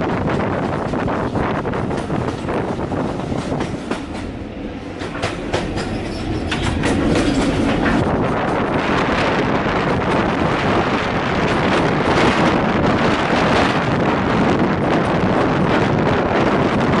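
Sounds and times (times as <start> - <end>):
train rumble: 0.0 - 17.0
train wheels clicking over rail joints: 0.1 - 16.0.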